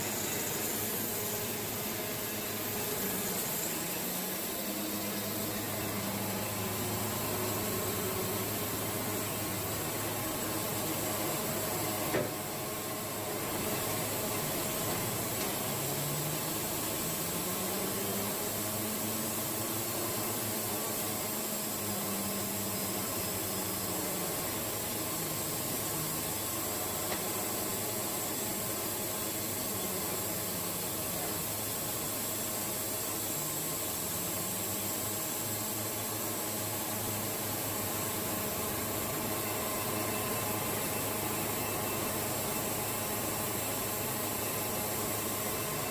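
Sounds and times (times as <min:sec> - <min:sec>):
mill engine hum: 0:00.0 - 0:45.9.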